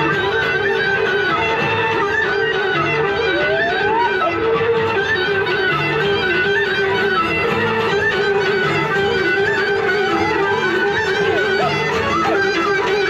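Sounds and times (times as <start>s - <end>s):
folk music on instruments: 0.0s - 13.0s.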